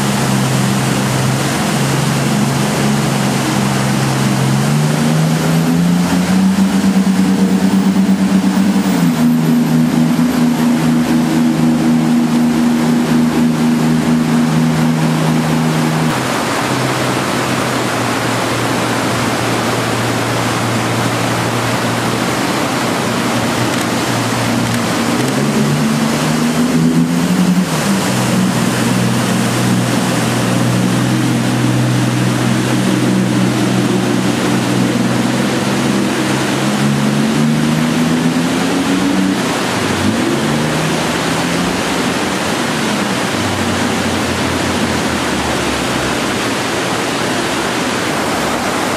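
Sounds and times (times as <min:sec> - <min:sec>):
boat engines running hard: 0:00.0 - 0:48.9
whitewater rushing: 0:00.0 - 0:48.9.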